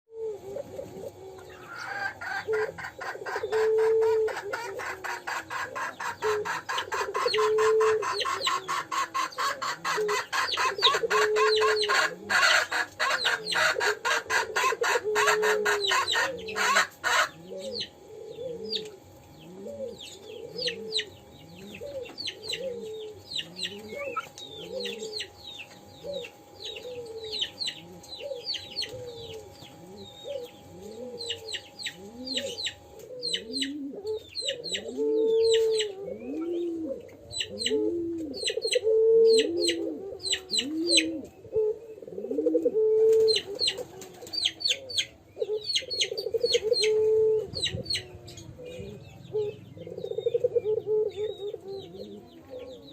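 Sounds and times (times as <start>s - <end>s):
dove cooing: 0.1s - 52.9s
small birds chirping: 1.4s - 42.3s, 43.1s - 52.9s.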